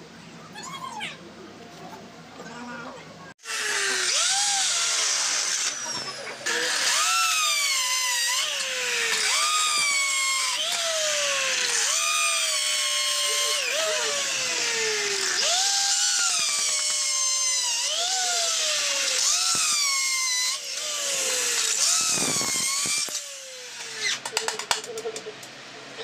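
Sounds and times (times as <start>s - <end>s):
electric drill motor whine: 3.4s - 24.3s
harsh grinding: 3.4s - 24.7s.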